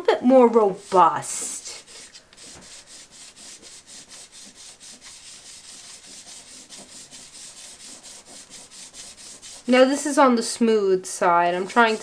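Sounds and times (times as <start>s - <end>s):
pastel stick scraping paper: 0.5s - 10.1s, 11.5s - 12.0s.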